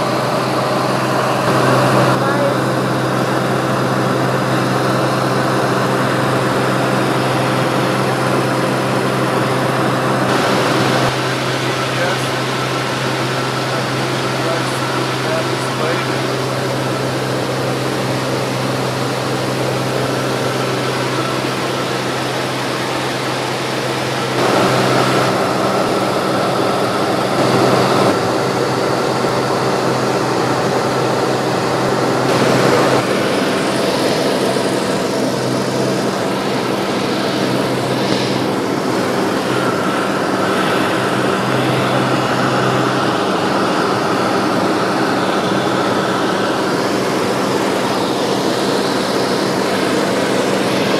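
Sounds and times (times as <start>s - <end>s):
propeller plane engine drone: 0.0s - 50.9s.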